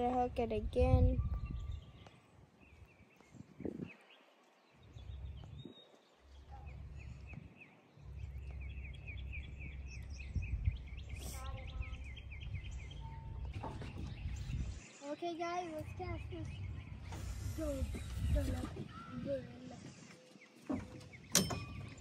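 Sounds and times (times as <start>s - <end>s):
wind buffeting microphone: 0.0s - 22.0s
bird chirping: 1.2s - 22.0s.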